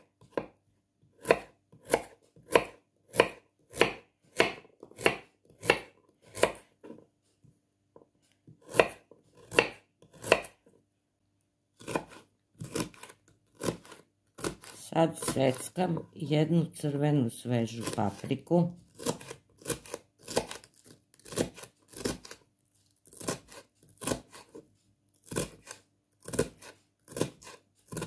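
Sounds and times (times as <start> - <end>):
knife chopping on wooden board: 0.0 - 7.0, 8.0 - 10.7, 11.8 - 16.1, 17.8 - 22.4, 23.1 - 24.6, 25.2 - 28.0.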